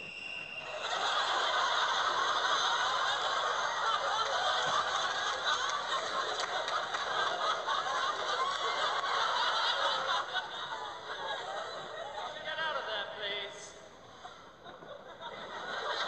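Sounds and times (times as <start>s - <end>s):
crowd laughing: 0.6s - 13.2s, 14.1s - 16.0s.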